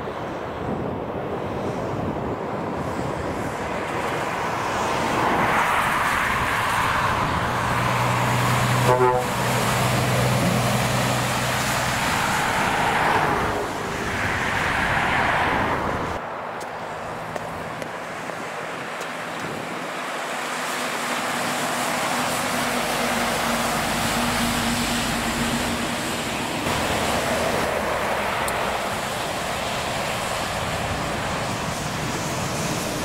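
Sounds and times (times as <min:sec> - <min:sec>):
traffic rushing past: 0:00.0 - 0:33.0
truck engine drone: 0:00.0 - 0:33.0.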